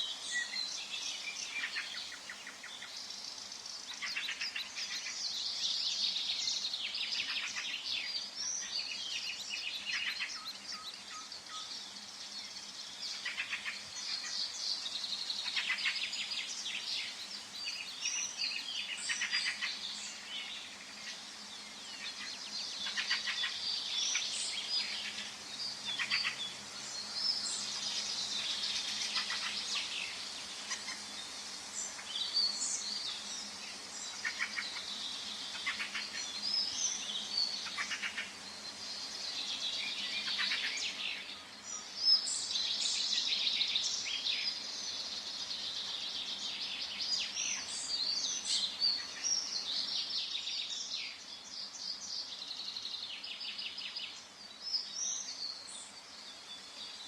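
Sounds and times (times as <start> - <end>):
birds chirping and trilling: 0.0 - 57.0.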